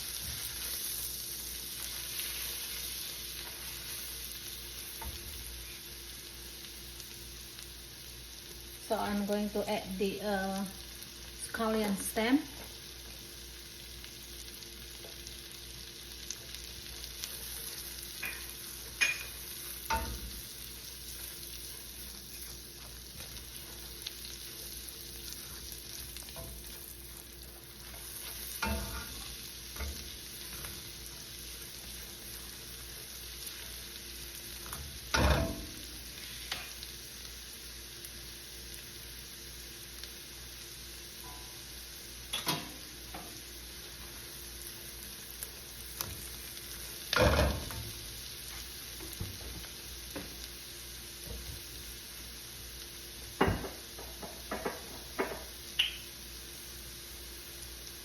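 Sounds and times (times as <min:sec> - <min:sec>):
food sizzling in butter: 0:00.0 - 0:58.0.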